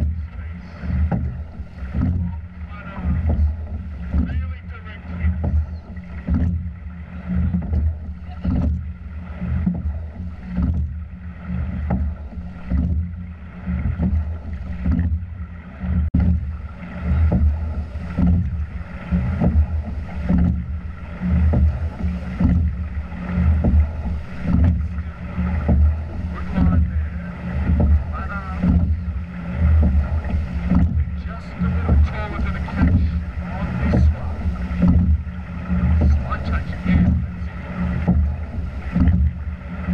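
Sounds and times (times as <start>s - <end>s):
light knock of rowing stroke: 0.0s - 39.9s
rushing water and wind: 0.0s - 39.9s.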